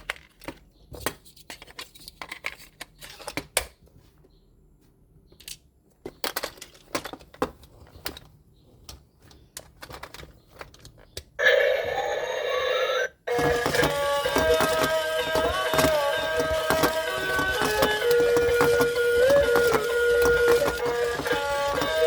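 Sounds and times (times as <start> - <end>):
plastic toy parts clicking: 0.0 - 0.7, 1.4 - 3.8, 5.4 - 11.4, 13.3 - 22.0.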